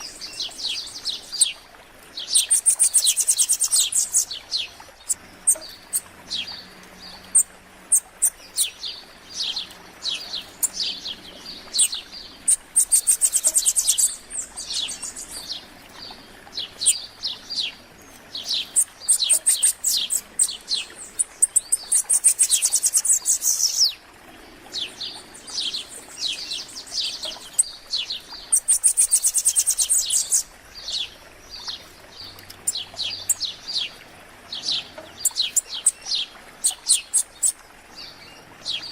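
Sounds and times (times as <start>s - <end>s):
songbirds chirping: 0.0s - 38.9s
high rapid bird trills: 2.2s - 23.9s, 24.8s - 38.9s.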